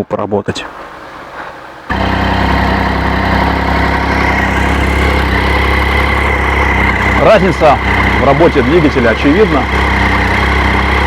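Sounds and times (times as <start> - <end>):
motorcycle engine idling: 1.9 - 11.0.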